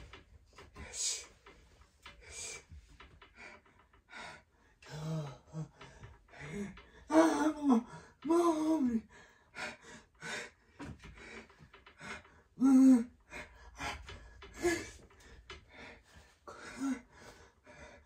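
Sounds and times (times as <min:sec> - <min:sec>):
man gasping and breathing quickly: 0:00.0 - 0:08.3, 0:09.0 - 0:18.0.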